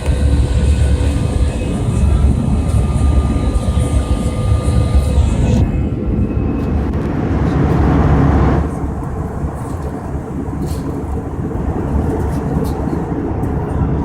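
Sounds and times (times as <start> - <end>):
airplane engine rumble: 0.0 - 14.0.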